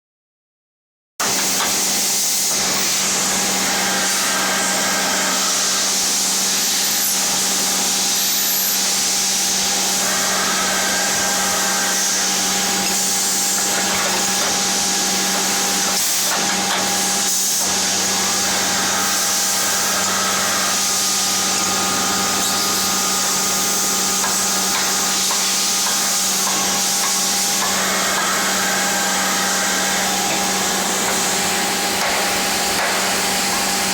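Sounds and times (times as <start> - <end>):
milling machine whining: 1.4 - 33.9.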